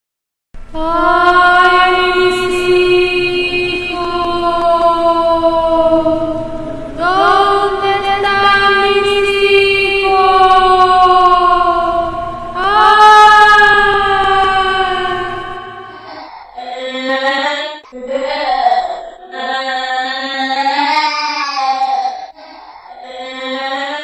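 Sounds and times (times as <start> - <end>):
chant-like drone: 0.7 - 24.0.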